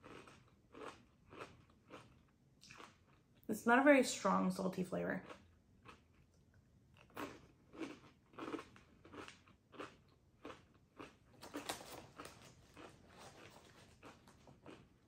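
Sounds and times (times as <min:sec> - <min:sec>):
chewing crunchy snack: 0:00.0 - 0:03.5, 0:05.2 - 0:15.0.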